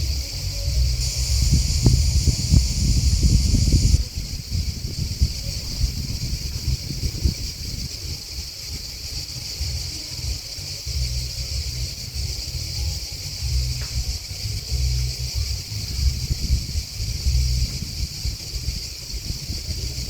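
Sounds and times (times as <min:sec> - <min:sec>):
low rumble: 0:00.0 - 0:07.9, 0:09.5 - 0:20.0
grasshoppers and crickets chorus: 0:00.0 - 0:20.0.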